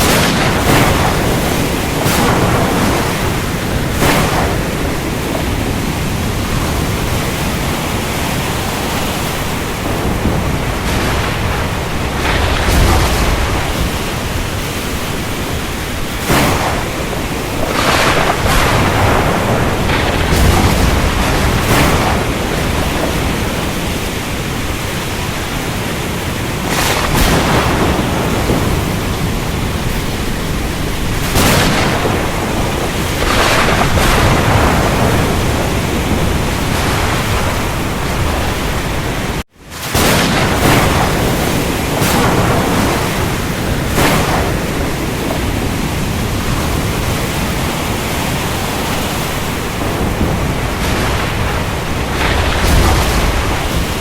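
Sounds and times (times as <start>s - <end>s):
rain: 0.0s - 54.0s
surf: 0.0s - 54.0s.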